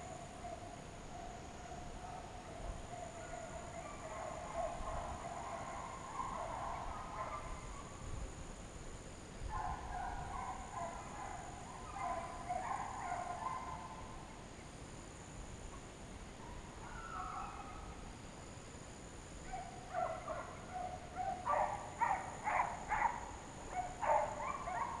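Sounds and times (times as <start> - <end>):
hounds baying in chorus: 0.0 - 8.0, 9.5 - 14.3, 16.4 - 18.1, 19.4 - 25.0.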